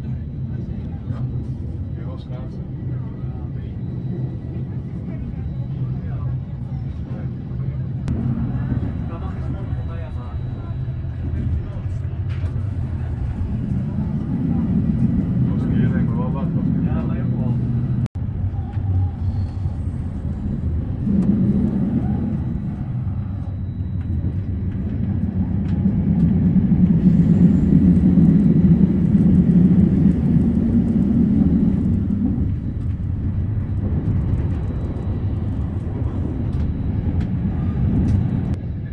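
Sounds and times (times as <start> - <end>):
train rumble inside carriage: 0.0 - 38.9.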